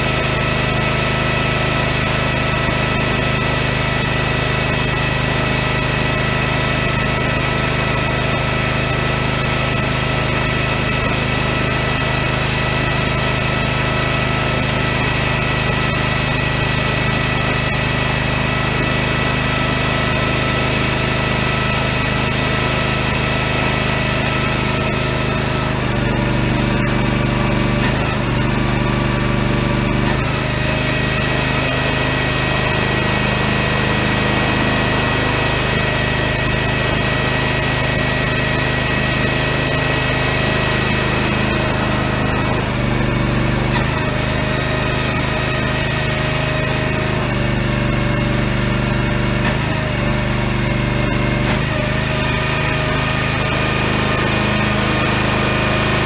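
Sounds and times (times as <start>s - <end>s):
firewood processor running: 0.0s - 56.0s.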